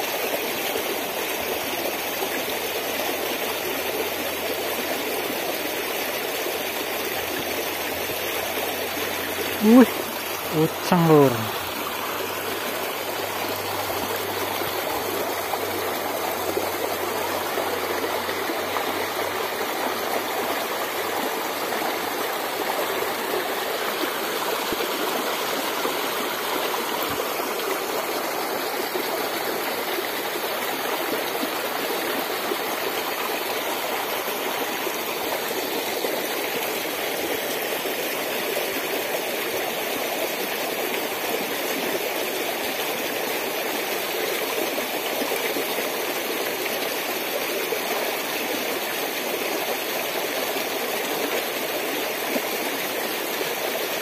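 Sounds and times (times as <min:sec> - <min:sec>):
stream water over stones: 0:00.0 - 0:54.0.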